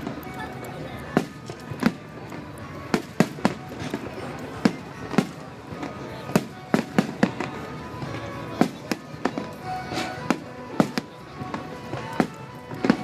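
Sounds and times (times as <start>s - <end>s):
fireworks bangs: 1.1s - 13.0s.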